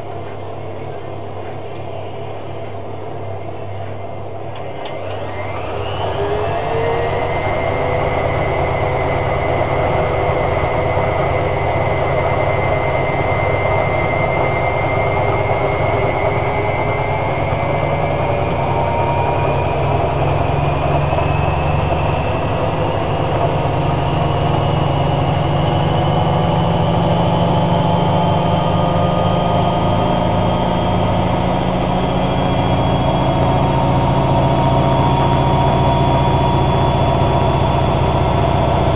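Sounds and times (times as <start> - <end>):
low hum: 0.0 - 38.9
washing machine motor whine: 0.0 - 38.9.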